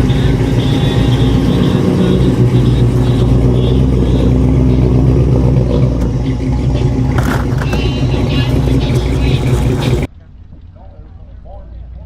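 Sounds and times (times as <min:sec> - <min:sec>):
car engine running: 0:00.0 - 0:10.1.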